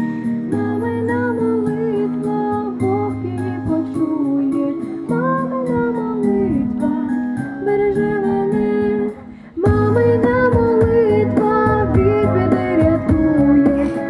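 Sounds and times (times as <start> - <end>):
guitar accompaniment: 0.0 - 14.0
slow song with long held notes: 0.0 - 14.0.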